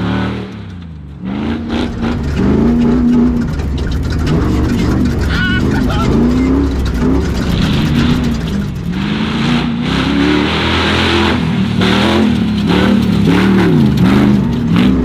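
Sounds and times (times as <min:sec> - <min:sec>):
truck engine revving: 0:00.0 - 0:15.0
tyres spraying dirt: 0:01.6 - 0:14.4.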